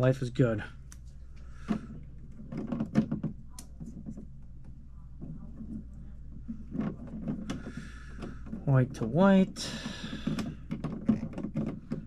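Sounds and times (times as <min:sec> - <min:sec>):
electrical wires clicking and rustling: 0:00.0 - 0:12.0.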